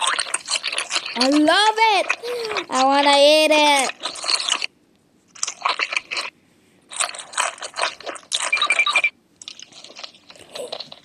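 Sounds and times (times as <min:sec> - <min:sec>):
crunching and chewing fried shrimp: 0:00.0 - 0:03.1, 0:03.7 - 0:04.7, 0:05.3 - 0:11.0.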